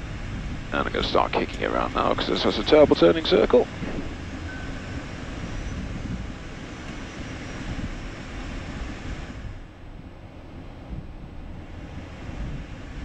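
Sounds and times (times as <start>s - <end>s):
jet engines rushing hiss: 0.0s - 13.0s
low rumble: 0.0s - 13.0s.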